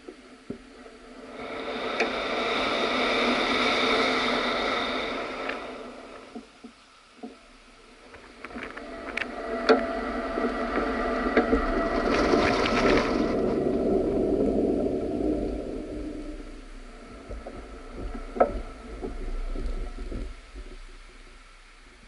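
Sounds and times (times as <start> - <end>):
air rushing past microphone: 0.7 - 6.6, 7.6 - 21.4.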